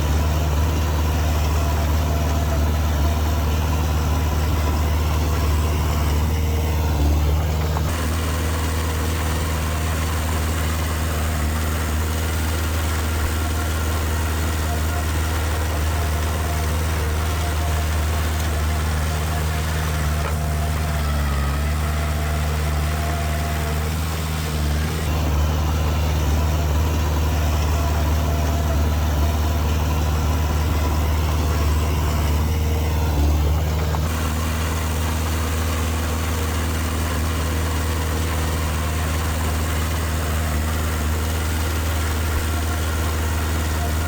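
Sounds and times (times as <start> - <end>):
diesel engine running at low revs: 0.0 - 44.0.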